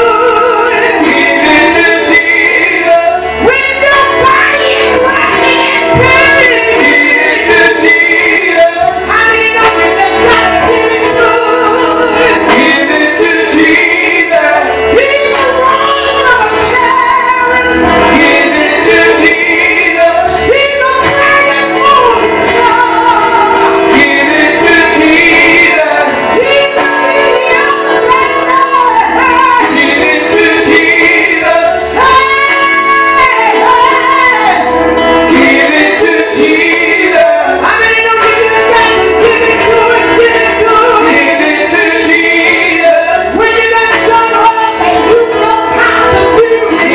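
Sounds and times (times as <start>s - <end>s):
backing music: 0.0s - 46.9s
woman singing gospel amplified: 0.0s - 46.9s.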